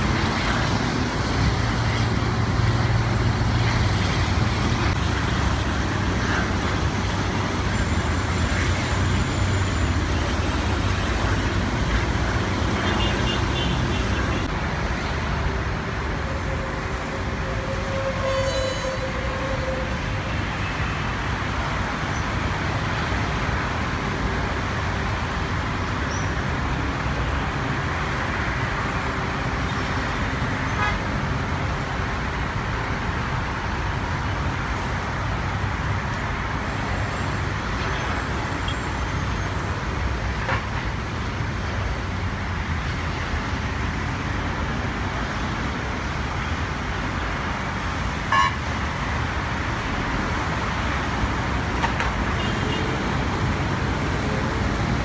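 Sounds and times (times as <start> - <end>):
road traffic: 0.0 - 55.0.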